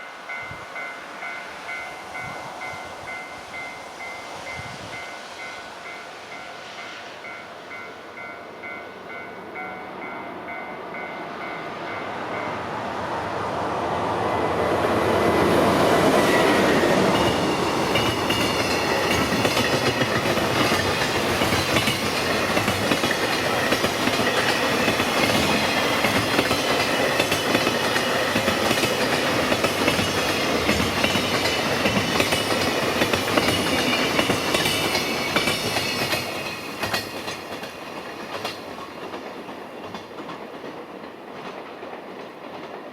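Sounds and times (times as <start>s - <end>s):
diesel locomotive passing: 0.0s - 42.9s.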